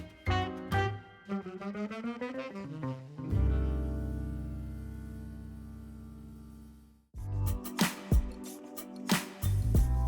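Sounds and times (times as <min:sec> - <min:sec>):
jazzy instrumental music: 0:00.0 - 0:10.0.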